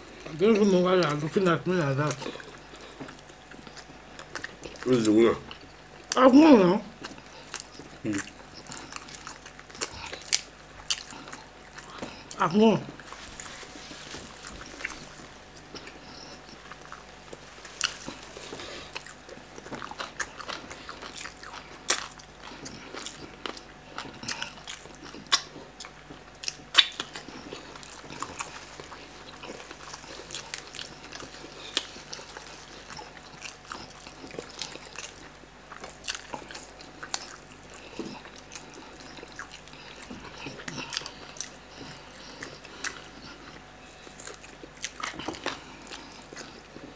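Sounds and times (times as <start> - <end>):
chewing with wet smacks: 0.0 - 46.9.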